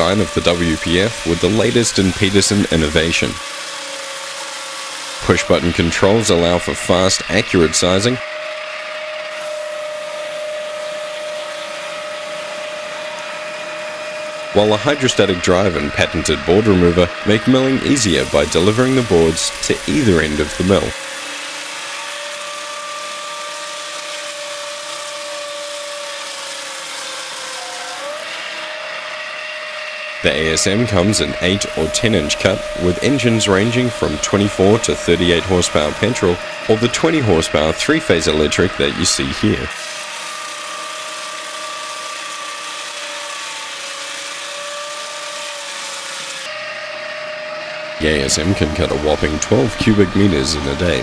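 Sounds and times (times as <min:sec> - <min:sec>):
saw cutting log hiss: 0:00.0 - 0:29.4, 0:30.2 - 0:46.6, 0:48.0 - 0:51.0
sawmill motor whine: 0:00.0 - 0:51.0.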